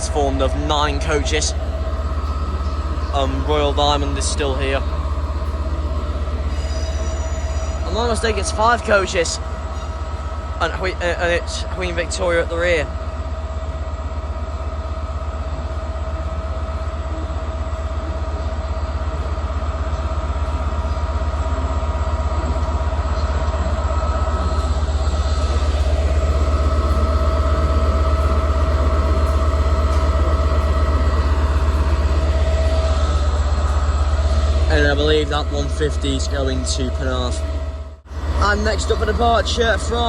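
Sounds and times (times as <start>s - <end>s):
diesel train engines humming: 0.0s - 40.0s
whining tones: 0.0s - 40.0s.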